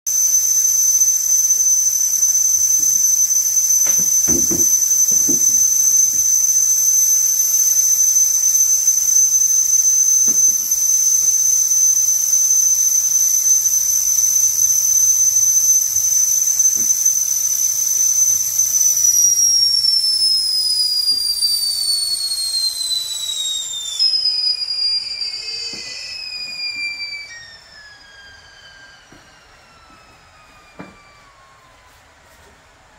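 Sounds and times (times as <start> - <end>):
kettle whistling: 0.1 - 32.9.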